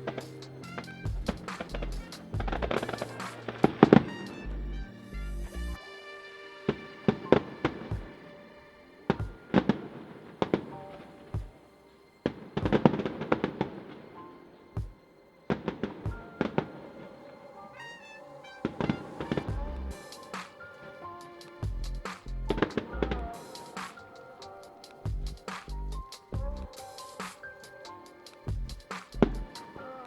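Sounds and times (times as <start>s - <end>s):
fireworks bangs and crackling: 0.0s - 4.5s, 6.6s - 8.4s, 9.1s - 11.6s, 12.2s - 14.1s, 14.8s - 17.0s, 18.6s - 29.7s
music playing: 0.0s - 30.0s.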